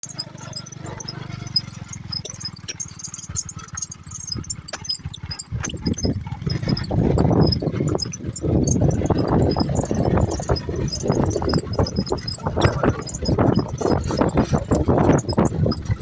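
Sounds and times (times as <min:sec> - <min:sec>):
light metallic rattling: 0:00.0 - 0:16.0
small motorcycle engine running: 0:00.0 - 0:16.0.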